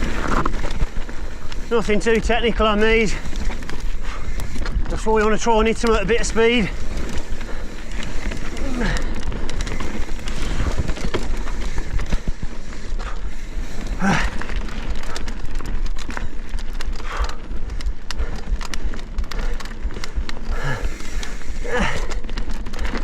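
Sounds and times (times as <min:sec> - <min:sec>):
bike rattling and knocking: 0:00.0 - 0:23.0
tyres running over dirt: 0:00.0 - 0:23.0.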